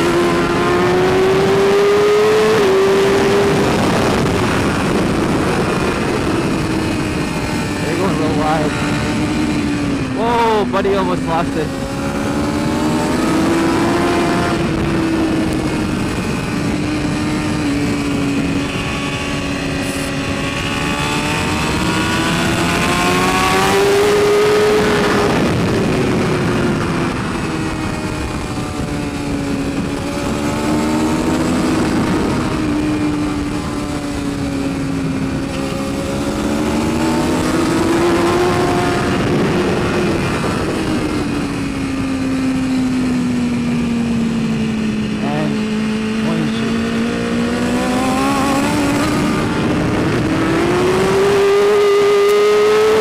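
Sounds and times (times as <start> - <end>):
motorcycle engine revving: 0.0 - 53.0
rushing wind noise: 0.0 - 53.0.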